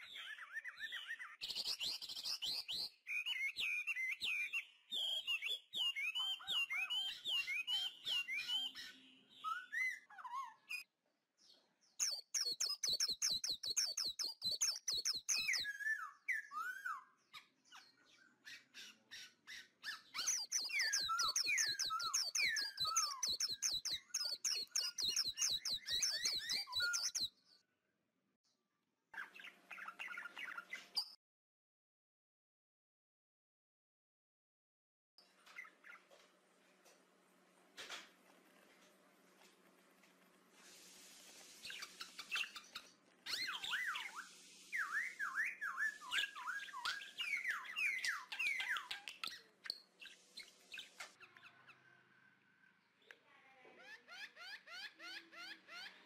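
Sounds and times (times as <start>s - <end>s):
small birds chirping and twittering: 0.0s - 27.7s, 28.5s - 31.2s, 35.2s - 37.0s, 37.7s - 56.0s.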